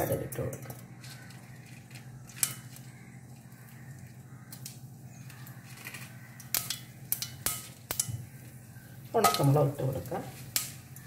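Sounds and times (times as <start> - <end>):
seeds popping in hot oil: 0.0 - 11.0.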